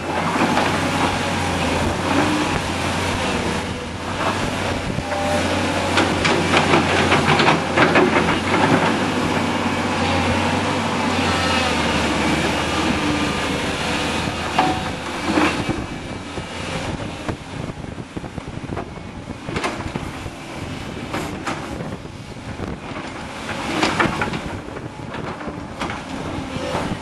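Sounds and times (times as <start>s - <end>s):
excavator diesel engines: 0.0s - 27.0s
wind buffeting microphone: 0.0s - 27.0s.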